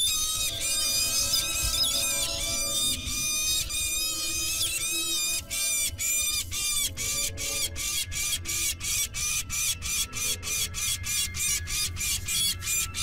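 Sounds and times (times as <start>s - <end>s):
falcon harsh alarm calls: 0.0s - 13.0s.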